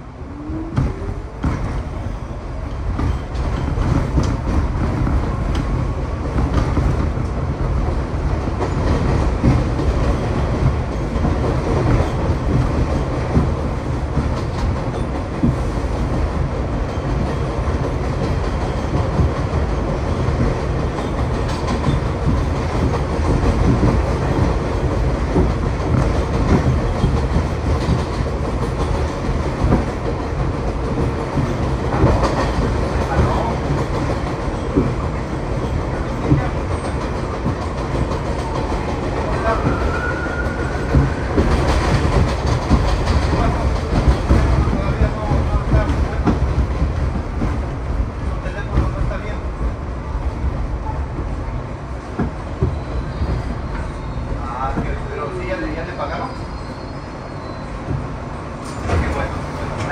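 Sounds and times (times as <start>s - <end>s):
train wheels rumbling on rails: 0.0s - 59.9s
clickety-clack over rail joints: 0.4s - 59.9s.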